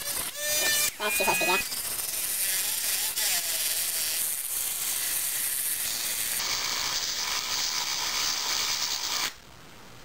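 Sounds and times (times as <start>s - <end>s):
rotary tool grinding: 0.0s - 9.4s.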